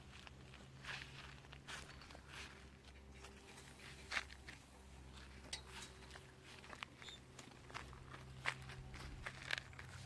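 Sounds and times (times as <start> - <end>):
footsteps crunching on soil: 0.0 - 10.0.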